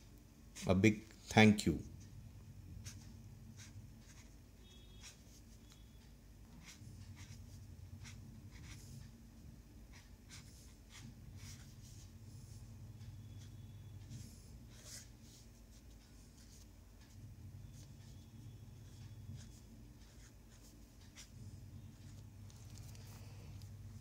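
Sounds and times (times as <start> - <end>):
brush pen scratching on paper: 2.8 - 23.7.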